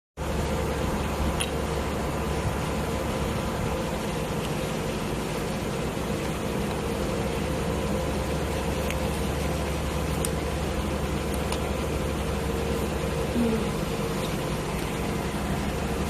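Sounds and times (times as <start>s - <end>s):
machine hum and hiss: 0.2s - 16.0s.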